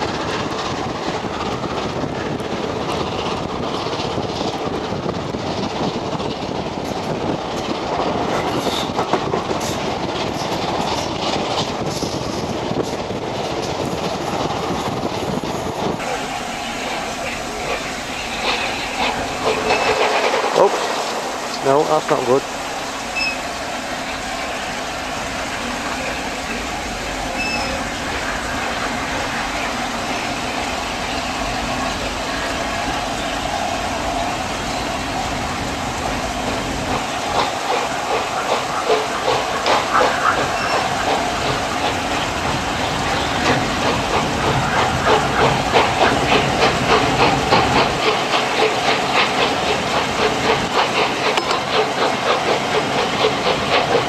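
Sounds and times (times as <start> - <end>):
steam locomotive exhaust beats: 0.0 - 54.0
steam train hiss and rush: 0.0 - 54.0.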